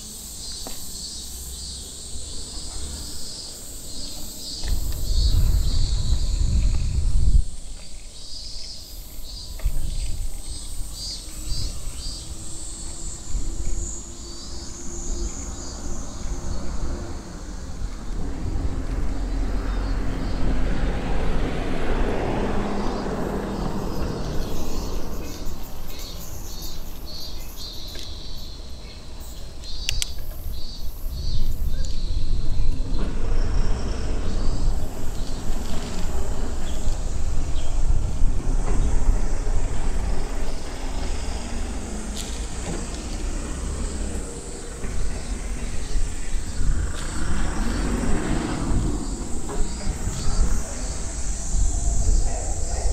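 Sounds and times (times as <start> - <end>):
cicadas buzzing: 0.0 - 52.9
rushing noise with low hum: 3.5 - 29.0, 29.8 - 52.9
wind rumble on microphone: 4.0 - 28.3, 28.9 - 52.9.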